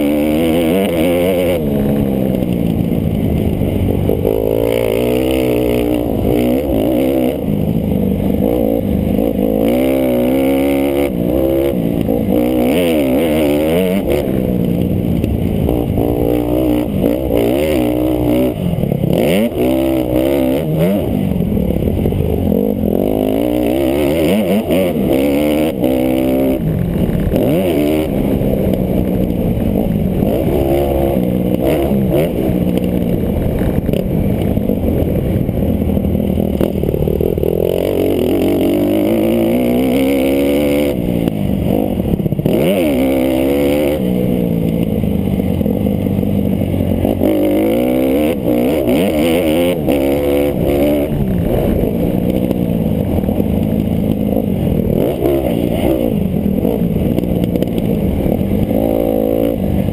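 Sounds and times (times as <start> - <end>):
motocross engine revving: 0.0 - 35.6, 36.3 - 59.9.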